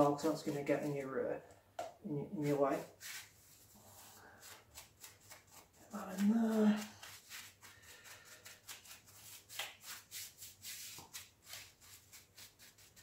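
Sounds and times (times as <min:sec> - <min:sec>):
paintbrush bristles scratching on brick: 0:00.0 - 0:01.2, 0:02.3 - 0:13.0.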